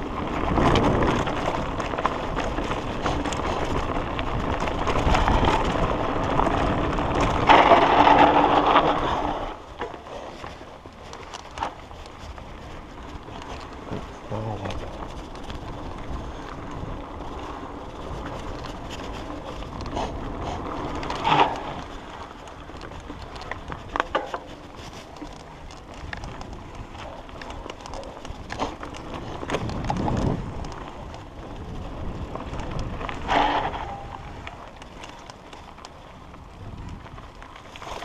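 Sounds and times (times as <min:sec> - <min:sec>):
bike tyre and drivetrain noise: 0:00.0 - 0:38.0
wind on camera: 0:00.0 - 0:38.0.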